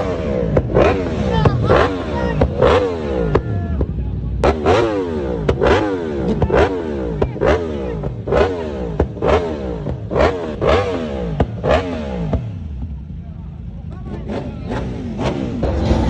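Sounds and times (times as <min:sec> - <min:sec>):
engine revving in sharp blips: 0:00.0 - 0:13.0, 0:13.9 - 0:16.0.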